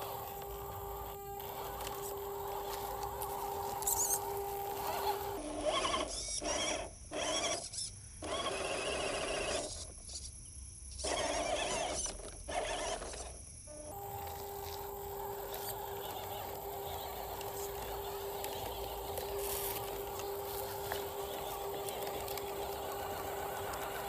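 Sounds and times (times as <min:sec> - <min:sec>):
toy car electric motor whining: 0:00.0 - 0:10.3, 0:10.9 - 0:24.0.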